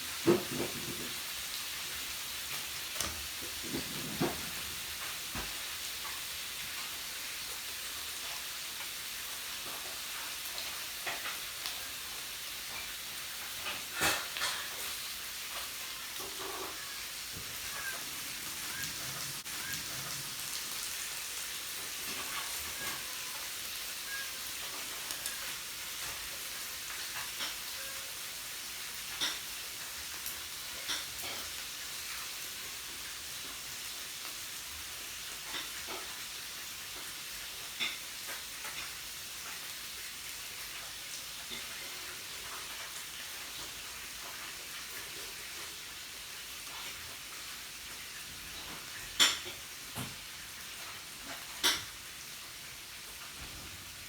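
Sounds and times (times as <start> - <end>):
meat sizzling on a grill: 0.0 - 54.0.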